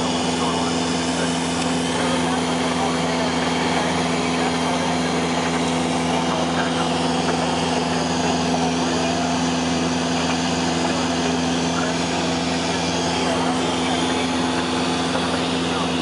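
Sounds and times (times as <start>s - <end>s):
light aircraft engine droning: 0.0s - 16.0s.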